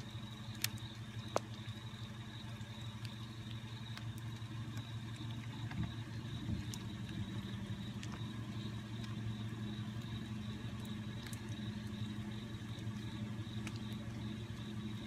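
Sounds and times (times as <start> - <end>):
faint ticks: 0.0 - 15.0
low mechanical hum: 0.0 - 15.0.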